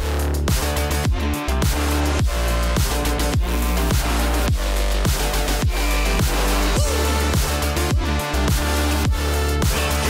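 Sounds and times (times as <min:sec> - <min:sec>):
deep bass: 0:00.0 - 0:10.0
electronic music with thumping beat: 0:00.0 - 0:10.0.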